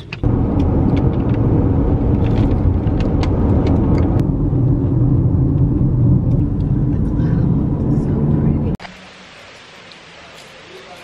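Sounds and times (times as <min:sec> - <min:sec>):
car rumble from inside cabin: 0:00.0 - 0:08.8.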